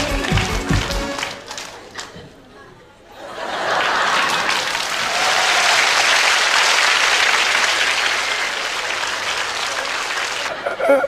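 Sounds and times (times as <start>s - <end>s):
audience applauding: 0.0s - 2.1s, 3.5s - 10.6s.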